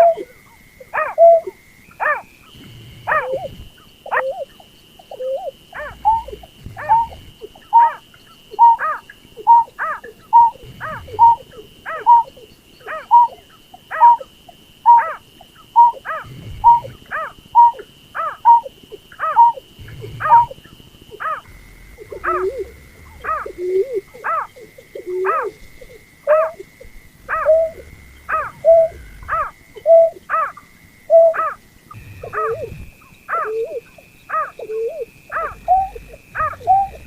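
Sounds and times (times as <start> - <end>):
snipe calls: 0.0 - 37.0.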